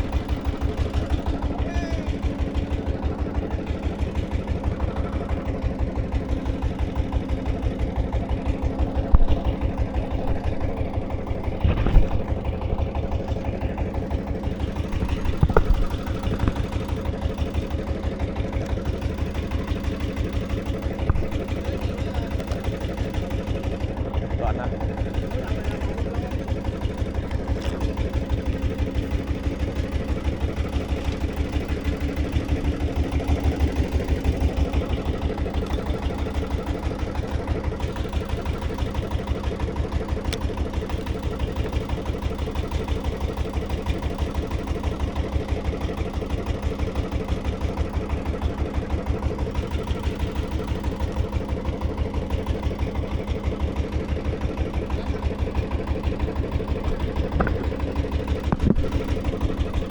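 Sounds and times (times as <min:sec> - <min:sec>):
engine thudding steadily: 0:00.0 - 0:59.9.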